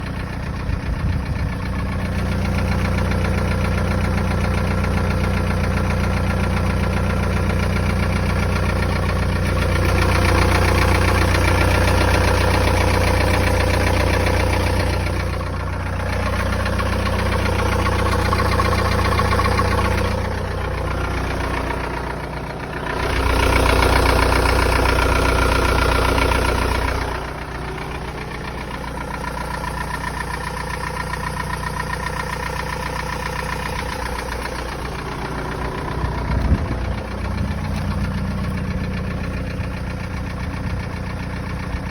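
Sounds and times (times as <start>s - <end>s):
diesel engine idling with a knock: 0.0s - 41.9s.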